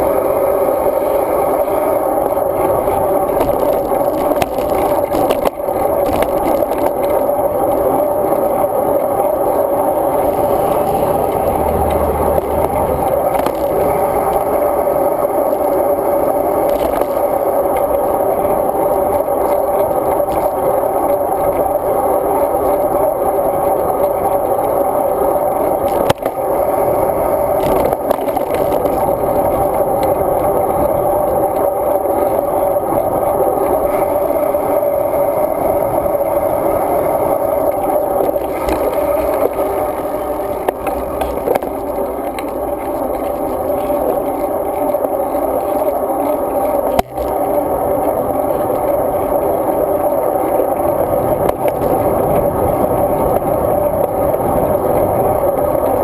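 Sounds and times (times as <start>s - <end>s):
bicycle tyres and wind rumble: 0.0s - 56.0s.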